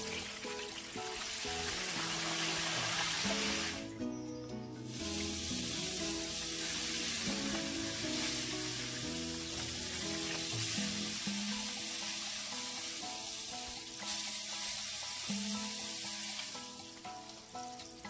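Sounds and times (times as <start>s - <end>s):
oil sizzling: 0.0s - 3.9s, 4.8s - 18.0s
background music: 0.0s - 18.0s.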